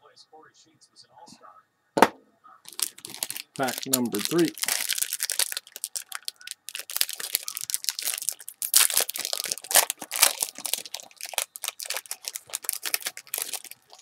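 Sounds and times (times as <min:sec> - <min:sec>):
foil wrapper crinkling: 0:02.7 - 0:14.0.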